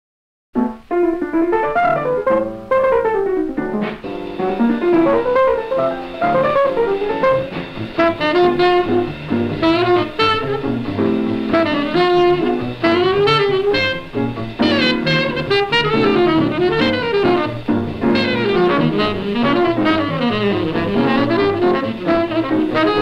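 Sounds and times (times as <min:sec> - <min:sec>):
instrumental background music: 0:00.6 - 0:23.0.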